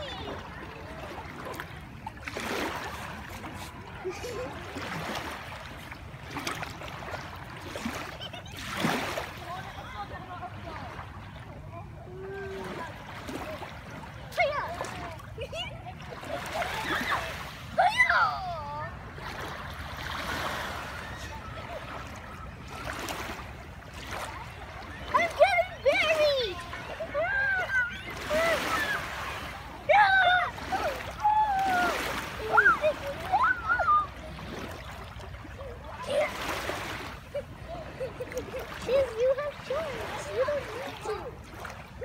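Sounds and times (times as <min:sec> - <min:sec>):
faint children's voices: 0:00.0 - 0:42.0
small waves lapping on shore: 0:00.0 - 0:42.0.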